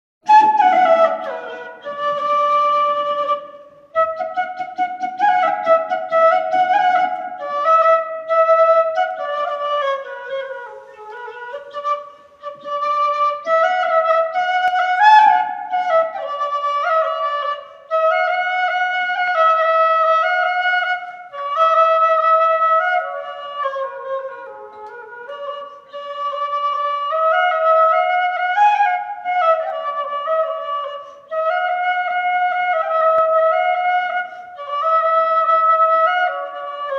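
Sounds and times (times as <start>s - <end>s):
wind instrument melody: 0.2s - 36.9s.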